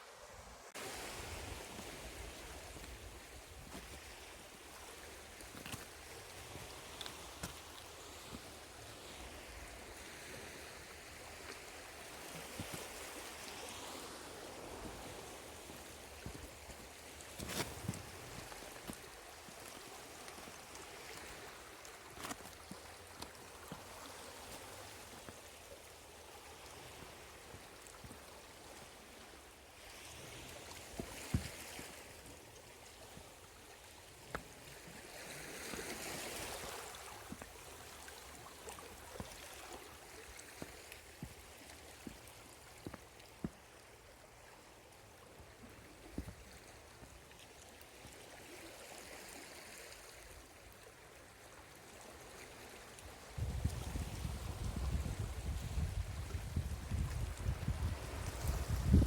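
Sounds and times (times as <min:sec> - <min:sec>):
small waves washing at shore: 0:00.0 - 0:59.0.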